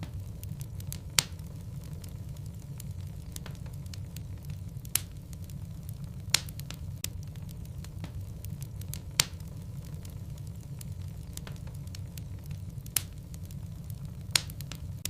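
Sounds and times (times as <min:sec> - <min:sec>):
logs burning in fireplace: 0:00.0 - 0:15.0
sharp pops of burning wood: 0:00.0 - 0:15.0.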